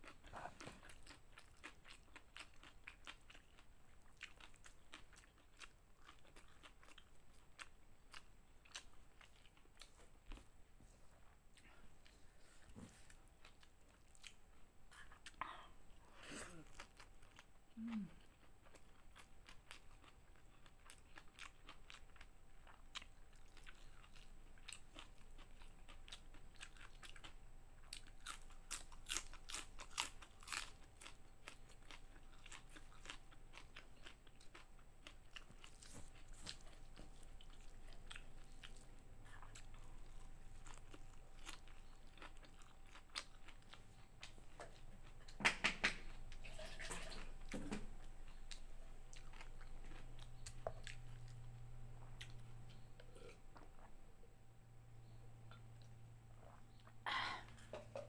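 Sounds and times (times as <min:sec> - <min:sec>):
chewing and crunching food: 0:00.0 - 0:54.3, 0:55.0 - 0:58.0.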